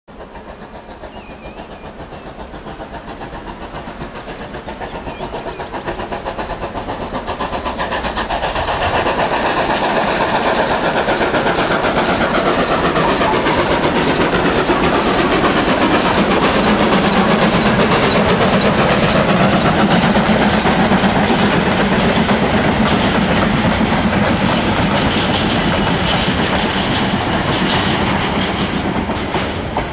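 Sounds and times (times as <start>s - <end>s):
steam locomotive exhaust beat: 0.1s - 29.9s.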